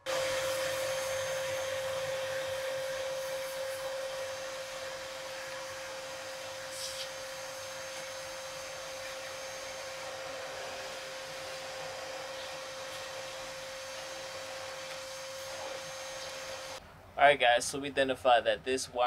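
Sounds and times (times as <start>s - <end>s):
vacuum cleaner running: 0.0s - 16.8s.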